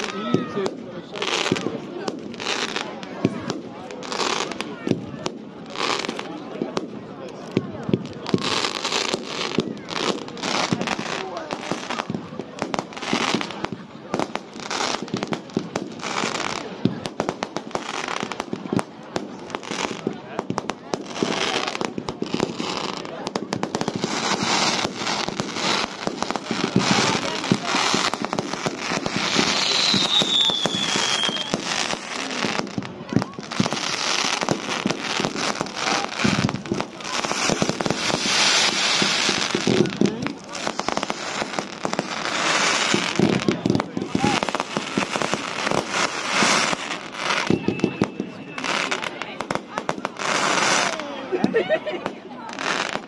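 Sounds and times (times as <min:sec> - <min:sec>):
fireworks bangs and crackles: 0:00.0 - 0:53.0
fireworks hissing: 0:07.3 - 0:53.0.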